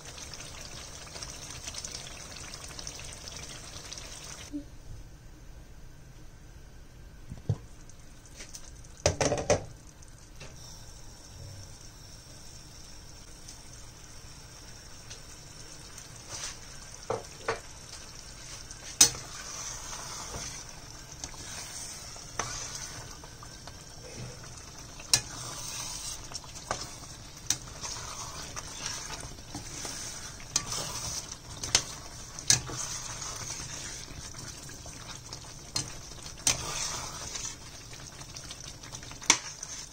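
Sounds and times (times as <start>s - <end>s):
curry sizzling in a pan: 0.0s - 4.6s, 7.5s - 39.9s.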